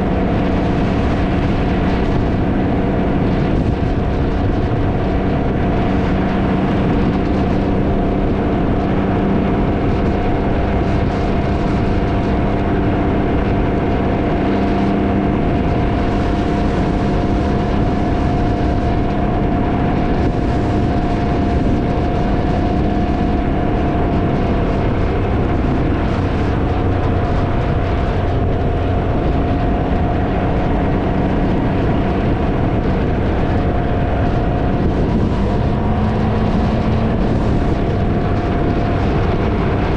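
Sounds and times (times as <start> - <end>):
three-wheeler engine cruising: 0.0 - 39.9
wind buffeting microphone: 0.0 - 39.9.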